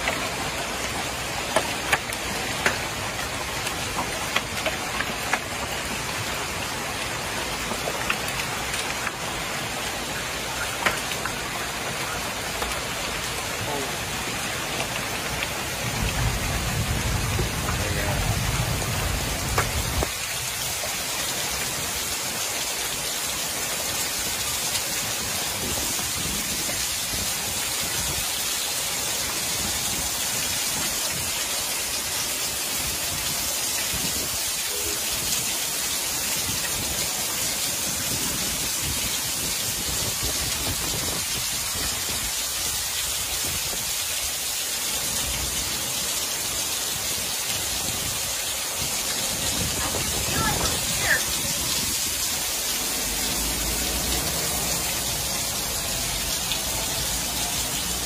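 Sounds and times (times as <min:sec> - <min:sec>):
heavy rain and hail: 0:00.0 - 0:58.0.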